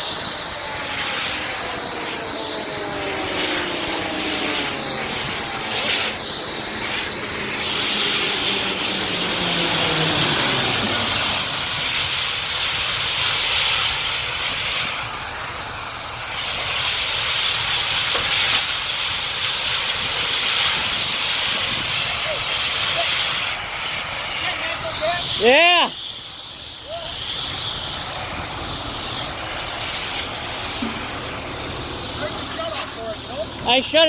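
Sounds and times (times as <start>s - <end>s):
falling whine: 0.0s - 34.0s
loud hissing of escaping gas: 0.0s - 34.0s.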